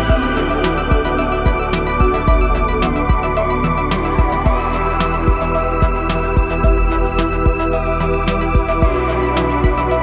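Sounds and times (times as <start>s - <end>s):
electronic music with synthesizer: 0.0s - 10.0s.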